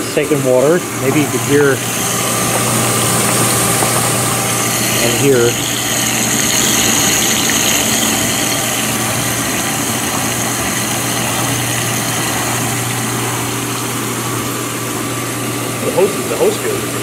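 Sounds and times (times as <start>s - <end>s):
dishwasher motor humming: 0.0s - 17.0s
water hissing through valve: 0.0s - 17.0s.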